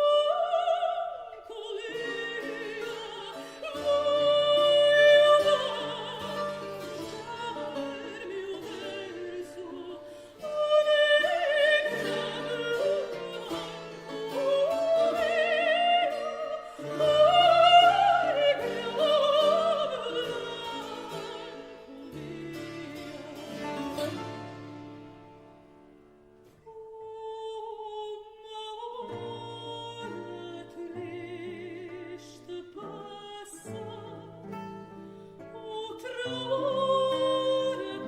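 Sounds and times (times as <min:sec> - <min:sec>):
person singing with vibrato: 0:00.0 - 0:25.1, 0:26.5 - 0:38.0
plucked string accompaniment: 0:00.0 - 0:38.0.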